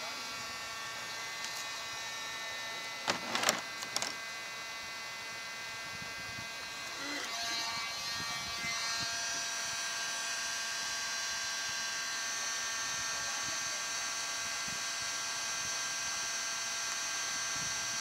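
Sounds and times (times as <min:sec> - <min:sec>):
heat gun motor whine: 0:00.0 - 0:18.0.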